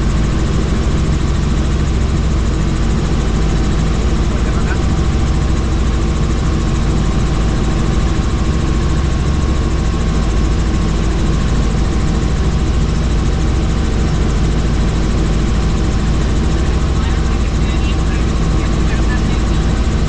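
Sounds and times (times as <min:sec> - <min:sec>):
helicopter rotor and turbine noise: 0:00.0 - 0:20.0.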